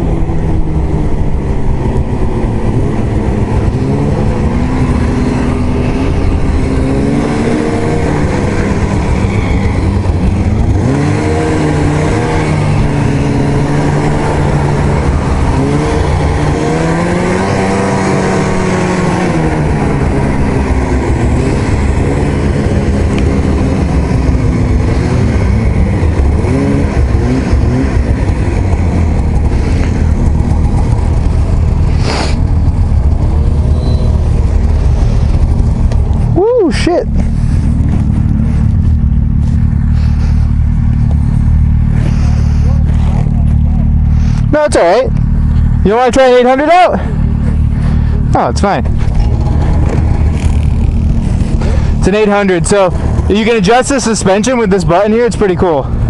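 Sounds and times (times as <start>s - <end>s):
snowmobile engine revving: 0.0s - 56.0s
steady rushing noise: 0.0s - 56.0s.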